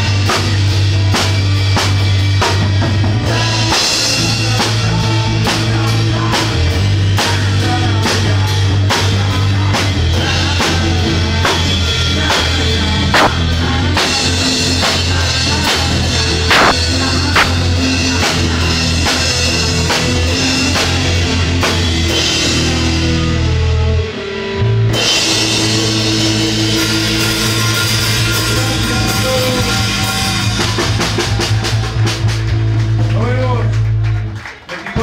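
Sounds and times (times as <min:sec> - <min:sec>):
drum kit with cymbals: 0:00.0 - 0:23.6, 0:24.9 - 0:33.5
bass and guitar: 0:00.0 - 0:35.0.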